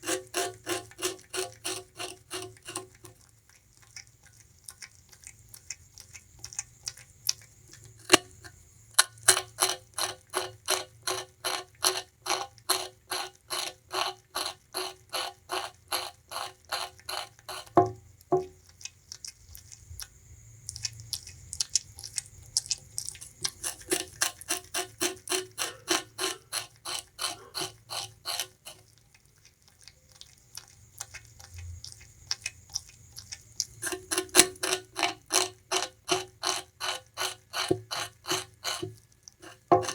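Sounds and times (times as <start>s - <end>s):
rodent gnawing sugarcane: 0.0s - 39.9s.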